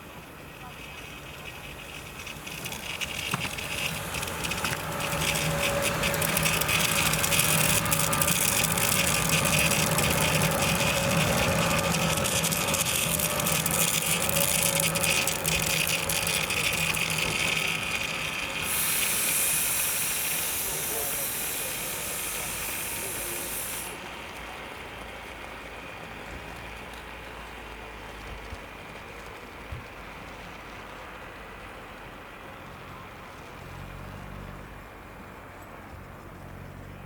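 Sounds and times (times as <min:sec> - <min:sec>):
train engine passing: 0:00.0 - 0:37.0
wheels clicking on rails: 0:00.0 - 0:37.0.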